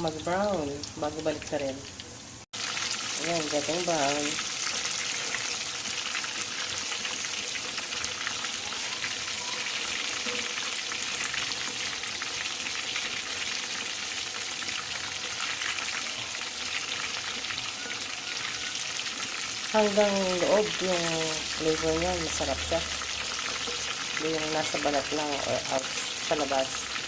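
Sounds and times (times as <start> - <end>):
chicken deep-frying in oil: 0.0 - 27.0.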